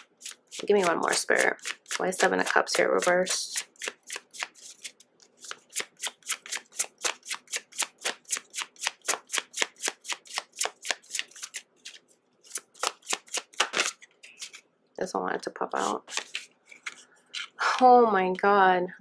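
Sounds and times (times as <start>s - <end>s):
cards being shuffled: 0.0s - 14.7s, 15.8s - 17.6s.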